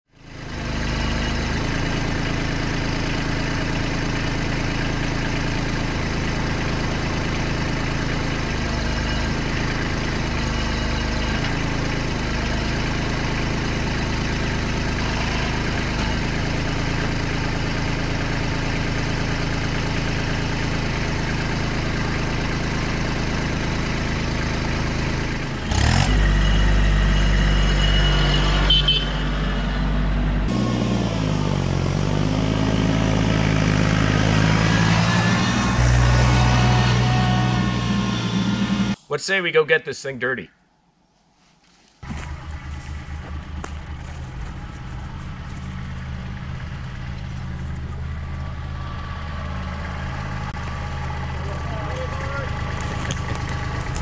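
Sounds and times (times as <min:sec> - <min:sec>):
tractor diesel engine running: 0:00.1 - 0:39.1, 0:42.0 - 0:54.0.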